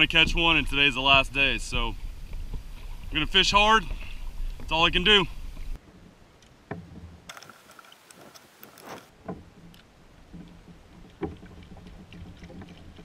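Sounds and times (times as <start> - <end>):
quiet water sounds: 0.0 - 13.0.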